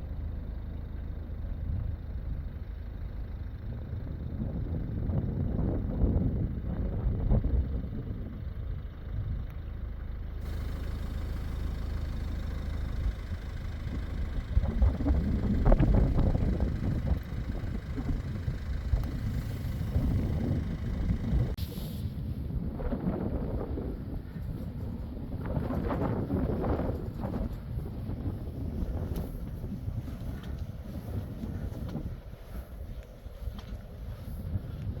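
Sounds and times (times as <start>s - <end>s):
wind buffeting microphone: 3.7s - 9.5s, 10.4s - 35.0s.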